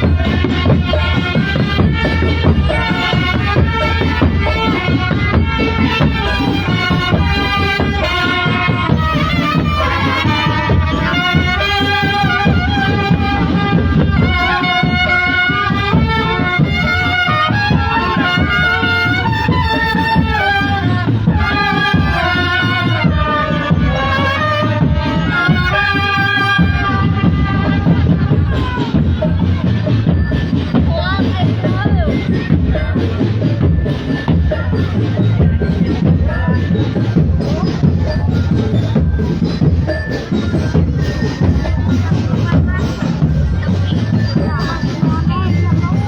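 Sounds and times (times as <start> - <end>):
busy drumming: 0.0 - 46.0.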